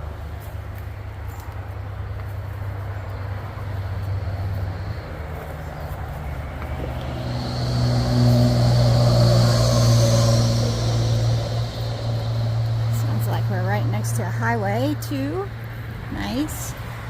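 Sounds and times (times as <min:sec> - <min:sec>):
highway traffic drone: 0:00.0 - 0:17.0
vehicle passing with tyre hiss: 0:00.0 - 0:17.0.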